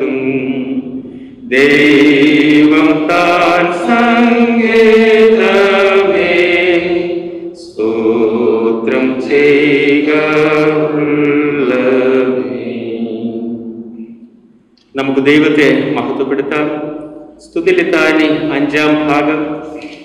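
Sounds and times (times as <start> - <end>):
voices singing a slow hymn: 0.0 - 20.0.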